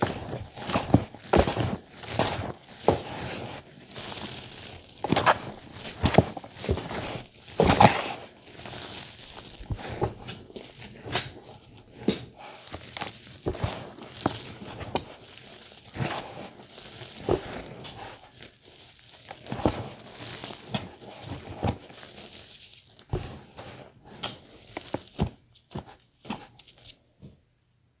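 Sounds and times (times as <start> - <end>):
hands squeezing powdered chalk: 0.0 - 27.0.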